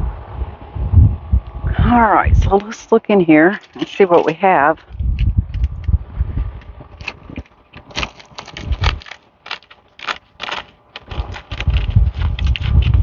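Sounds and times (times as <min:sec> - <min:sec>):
fingers rubbing dry sunflower head: 0:02.0 - 0:13.0
seeds crackling and rustling: 0:02.5 - 0:13.0.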